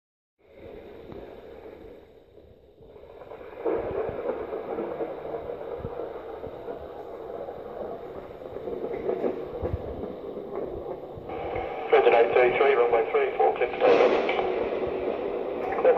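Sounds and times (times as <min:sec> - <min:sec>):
steady rumbling noise: 0:00.4 - 0:15.9.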